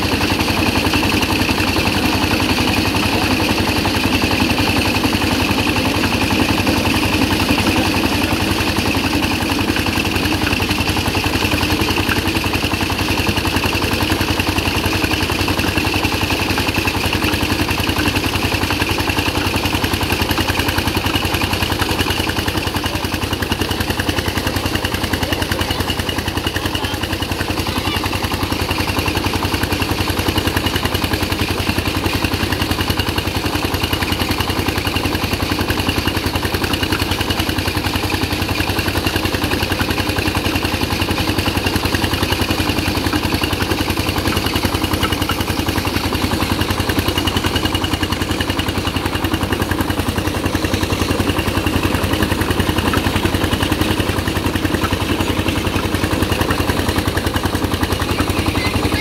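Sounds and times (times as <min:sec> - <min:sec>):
thresher motor running: 0:00.0 - 0:59.0.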